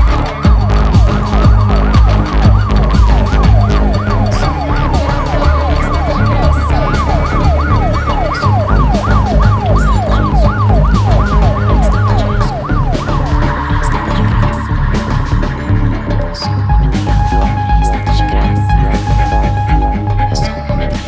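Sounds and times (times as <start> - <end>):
police siren yelping: 0.0 - 21.0
techno music bass beat: 0.0 - 21.0.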